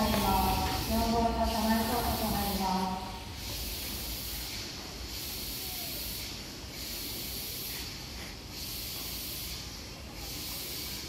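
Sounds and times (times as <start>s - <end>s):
electric train hissing: 0.0s - 11.0s.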